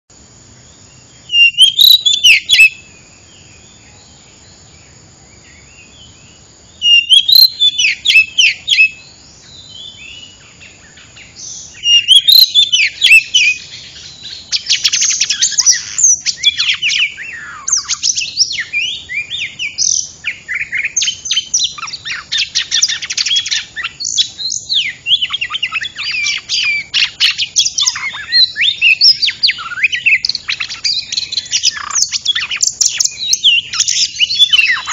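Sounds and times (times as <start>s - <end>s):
bird song whistles and chatter: 1.2s - 2.9s, 6.8s - 34.9s.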